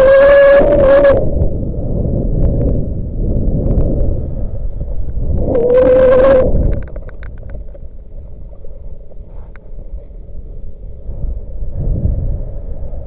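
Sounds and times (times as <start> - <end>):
loud steady whine: 0.0 - 13.0
wind buffeting microphone: 0.0 - 13.0.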